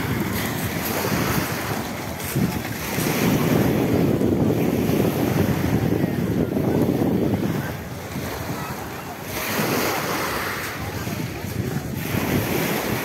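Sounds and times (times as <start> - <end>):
waves on pebble beach: 0.0 - 13.0
wind buffeting microphone: 0.0 - 13.0.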